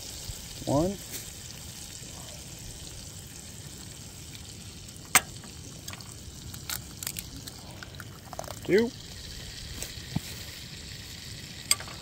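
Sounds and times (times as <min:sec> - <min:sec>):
eggs sizzling in a pan: 0:00.0 - 0:12.0.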